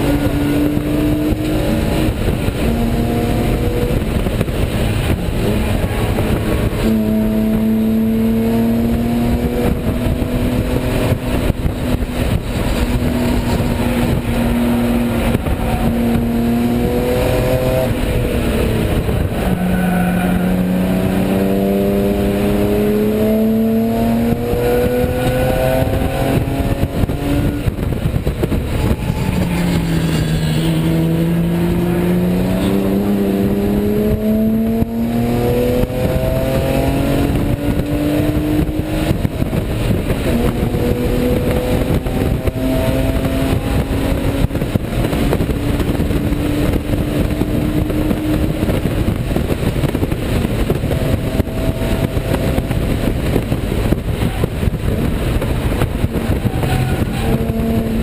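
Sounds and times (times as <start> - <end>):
race car engine accelerating: 0.0 - 58.0
road and wind noise: 0.0 - 58.0.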